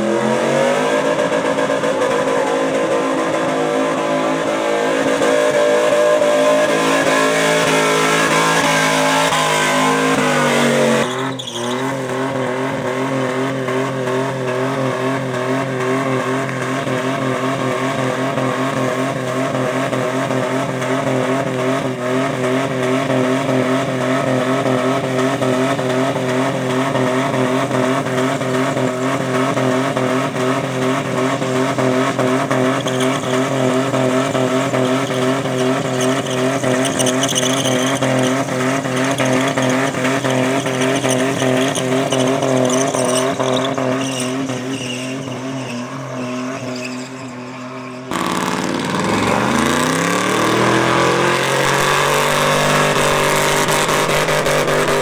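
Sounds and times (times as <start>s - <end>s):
pickup engine at high revs: 0.0s - 55.0s
second pickup engine revving: 0.0s - 55.0s
tyre squealing on pavement: 0.0s - 55.0s.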